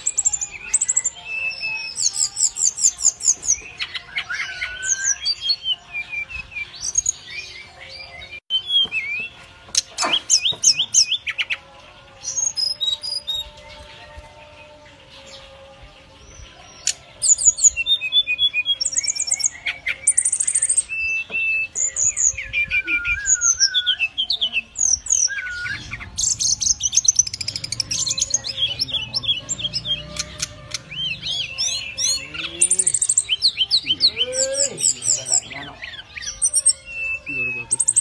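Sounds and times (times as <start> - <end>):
bird singing trills and whistles: 0.0 - 14.1, 15.0 - 38.0.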